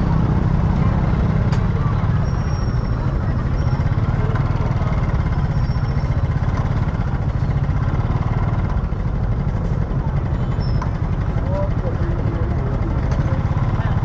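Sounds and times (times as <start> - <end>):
faint voices: 0.0 - 14.0.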